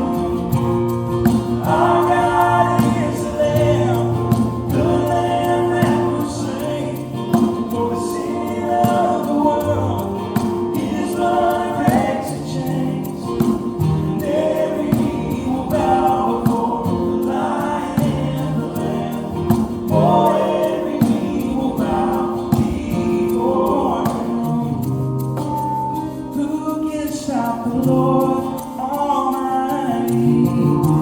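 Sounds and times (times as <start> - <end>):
choir singing gospel music: 0.0 - 31.0.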